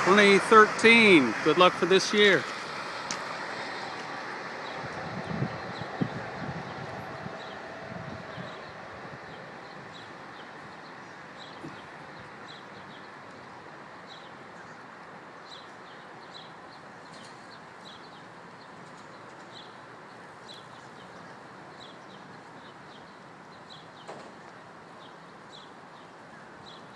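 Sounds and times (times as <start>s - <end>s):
small birds chirping: 0.9s - 26.9s.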